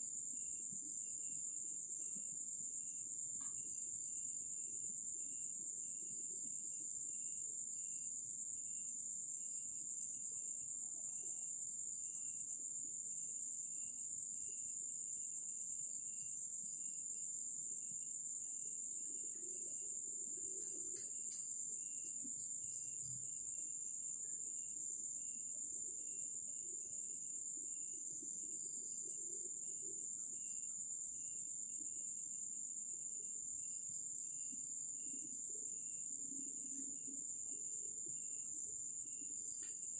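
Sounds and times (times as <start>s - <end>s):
lower cricket chirp: 0.0s - 39.9s.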